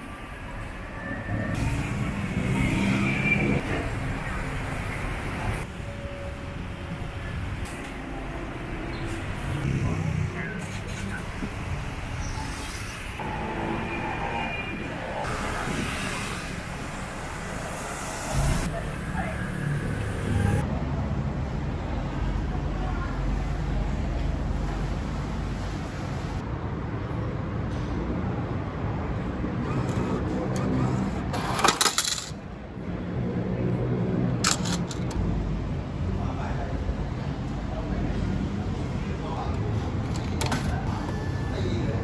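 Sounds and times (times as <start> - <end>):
vehicle engines in busy street: 0.0 - 42.0.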